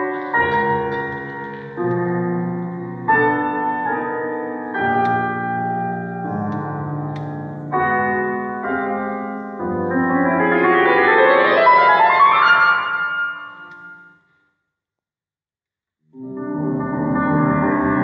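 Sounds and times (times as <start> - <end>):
grand piano playing: 0.0 - 14.2, 16.2 - 18.0.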